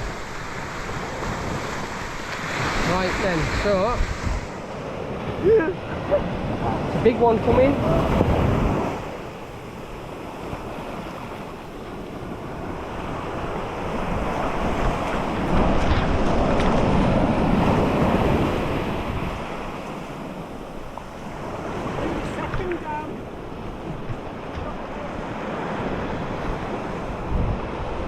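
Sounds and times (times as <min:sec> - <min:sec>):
ocean wave breaking on shore: 0:00.0 - 0:28.0
wind buffeting microphone: 0:00.0 - 0:28.0.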